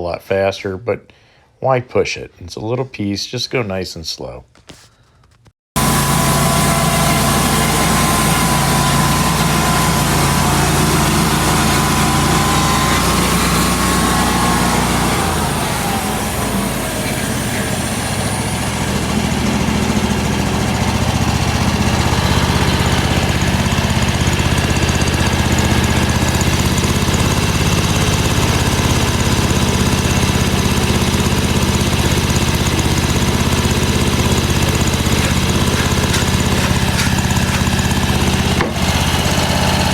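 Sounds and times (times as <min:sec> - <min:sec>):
sawmill engine cutting log: 0:05.8 - 0:39.9.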